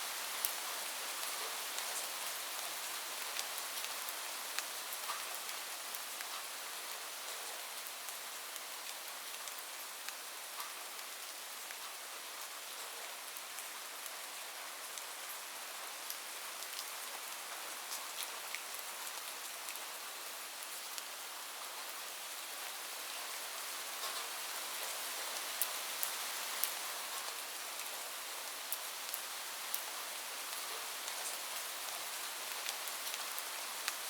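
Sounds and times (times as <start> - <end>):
rain on a roof: 0.0 - 34.0.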